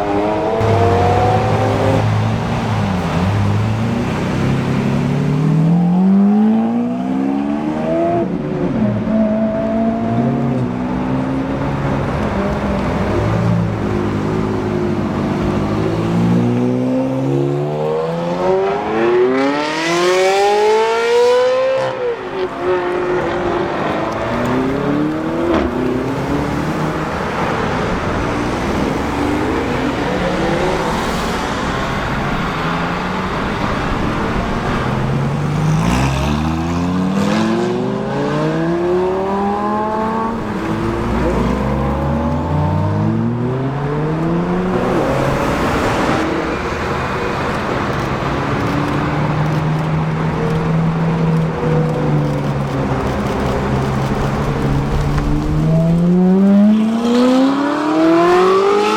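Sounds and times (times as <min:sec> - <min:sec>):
sports car engines accelerating: 0:00.0 - 0:58.9.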